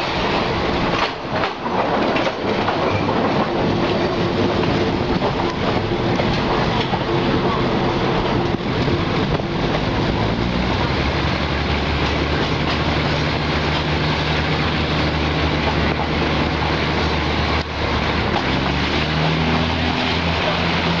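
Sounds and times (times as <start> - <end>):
low engine drone: 0.0 - 21.0
wheel and wind noise: 0.0 - 21.0.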